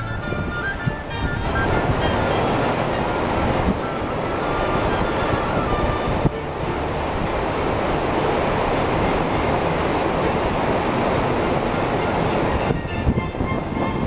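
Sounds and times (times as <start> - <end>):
ship wake water rushing: 0.0 - 14.0
wind buffeting microphone: 0.0 - 14.0.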